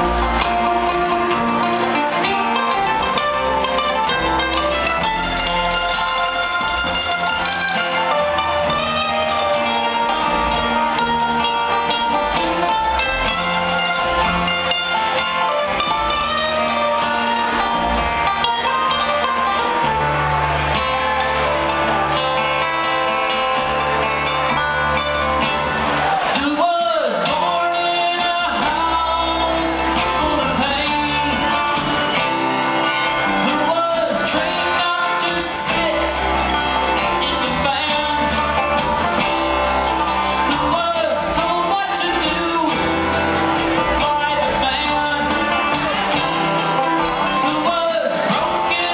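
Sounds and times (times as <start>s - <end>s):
bluegrass string band playing: 0.0s - 48.9s
picked acoustic guitar: 0.0s - 48.9s
walking upright bass: 0.0s - 48.9s.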